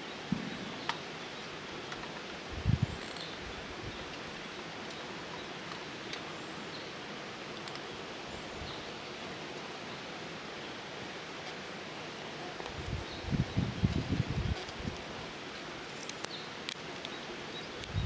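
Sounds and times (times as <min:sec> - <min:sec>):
outdoor background hiss: 0:00.0 - 0:18.0
faint ticks and rustles: 0:00.1 - 0:18.0.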